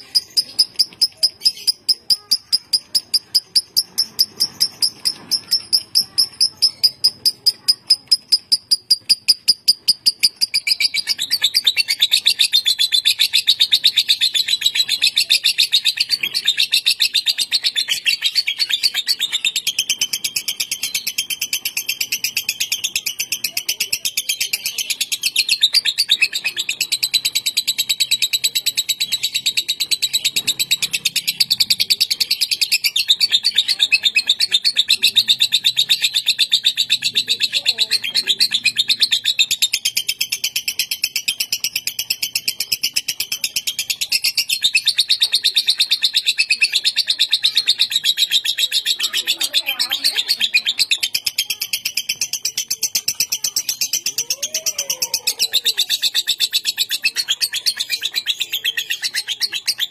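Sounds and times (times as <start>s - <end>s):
lovebird chattering: 0.0s - 59.9s.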